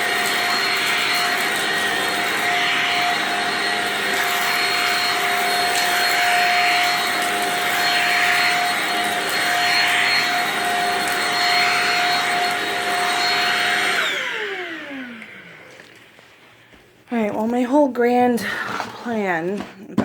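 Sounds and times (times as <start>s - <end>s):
vacuum motor spinning down: 0.0s - 16.2s
vacuum cleaner motor whine: 0.0s - 16.9s.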